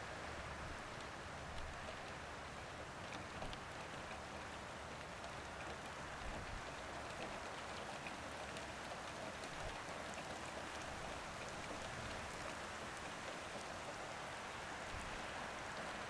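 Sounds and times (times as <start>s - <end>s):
raindrops ticking on surfaces: 0.0s - 16.0s.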